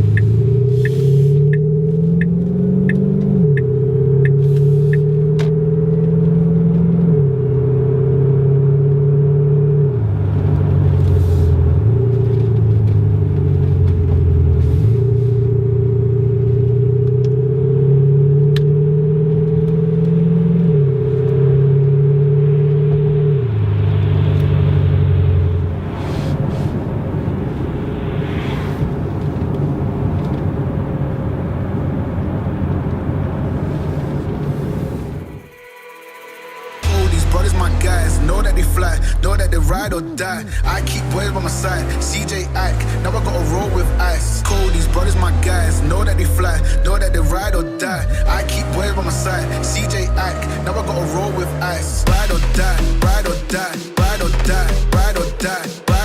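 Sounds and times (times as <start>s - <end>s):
rough steady rumble: 0.0s - 9.1s, 9.8s - 18.6s, 19.3s - 35.8s, 36.6s - 56.0s
simulated sports car engine note: 0.0s - 25.9s, 31.0s - 56.0s.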